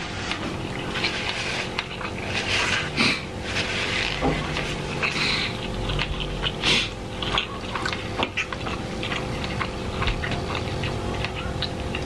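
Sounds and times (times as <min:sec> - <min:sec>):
close chewing and mouth sounds: 0:00.0 - 0:12.0.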